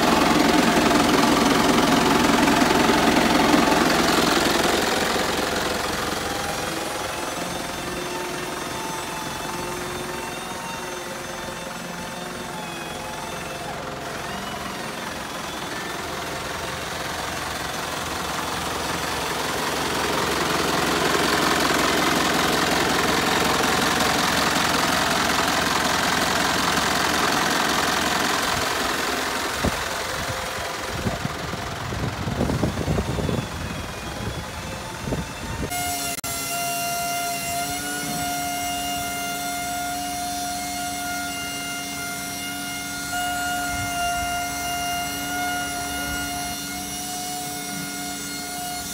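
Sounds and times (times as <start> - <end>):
diesel engine idling with whine: 0.0 - 48.9.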